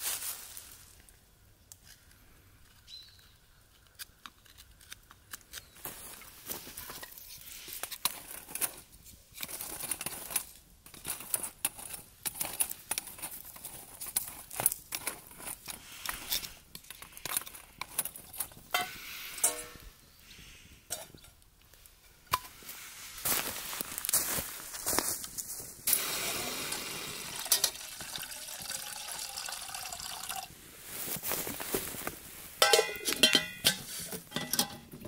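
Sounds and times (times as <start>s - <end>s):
dry sticks being handled: 0.0s - 28.8s, 30.8s - 35.0s
twig fire crackling: 0.0s - 34.3s.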